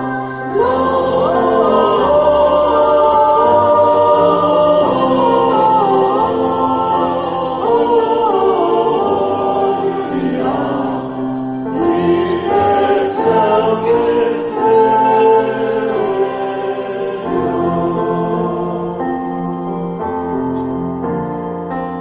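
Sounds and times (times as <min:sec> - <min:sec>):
choir singing: 0:00.0 - 0:21.3.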